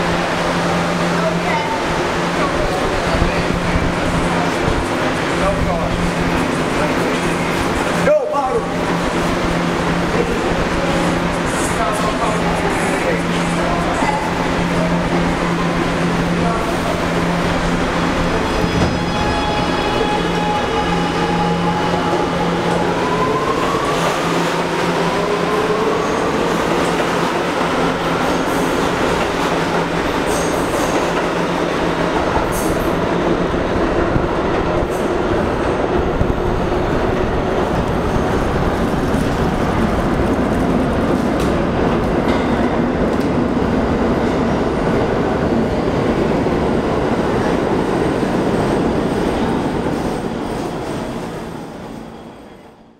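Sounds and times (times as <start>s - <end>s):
wheels rumbling on rail: 0.0s - 52.6s.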